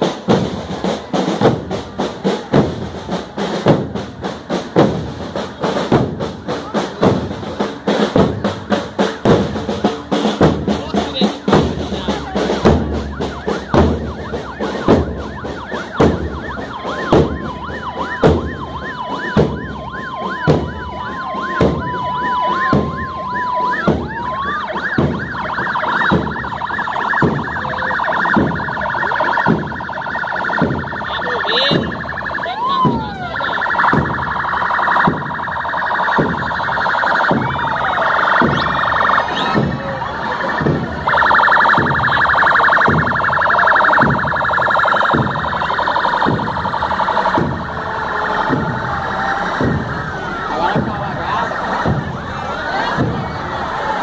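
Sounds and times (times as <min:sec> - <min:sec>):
marching drumbeat: 0:00.0 - 0:54.0
police sirens wailing: 0:00.0 - 0:54.0.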